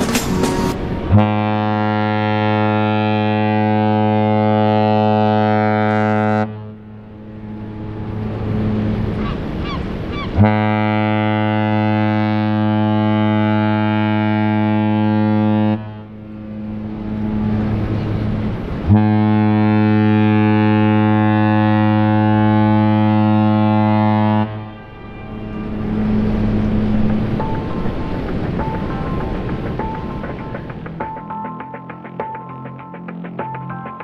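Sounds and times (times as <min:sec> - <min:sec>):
ship's horn blasts: 0:00.6 - 0:31.2.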